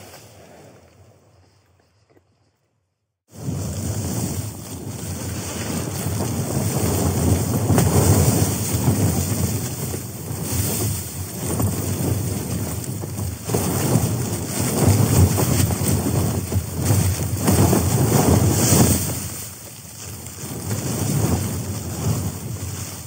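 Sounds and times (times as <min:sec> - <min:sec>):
tent fabric buffeting: 0:03.3 - 0:23.0
wind gusting against a tent: 0:03.3 - 0:23.0.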